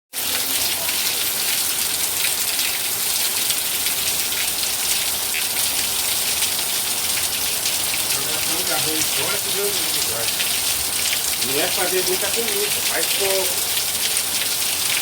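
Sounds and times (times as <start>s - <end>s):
steady rain hiss: 0.4s - 15.0s
raindrop ticks: 0.6s - 15.0s.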